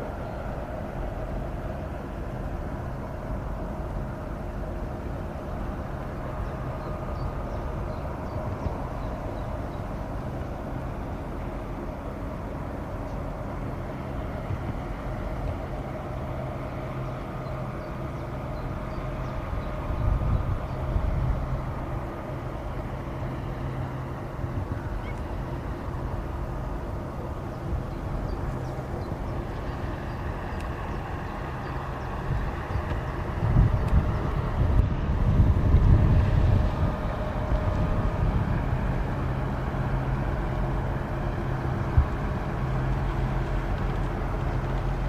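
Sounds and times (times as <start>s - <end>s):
boat engine drone: 0.0s - 45.0s
wind buffeting microphone: 0.0s - 45.0s.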